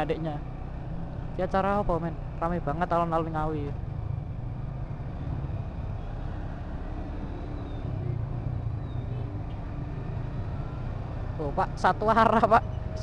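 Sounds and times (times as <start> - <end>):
motorcycle engine low rumble: 0.0 - 13.0
slow traffic: 0.0 - 13.0.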